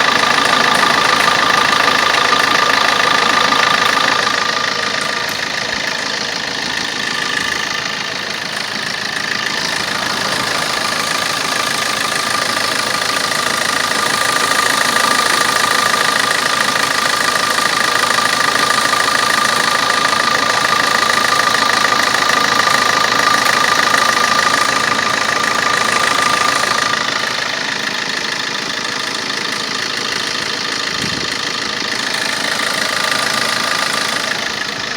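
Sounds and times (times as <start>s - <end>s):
diesel engine idling: 0.0s - 34.9s
rapid clicking: 0.0s - 34.9s
steady whine: 0.0s - 34.9s.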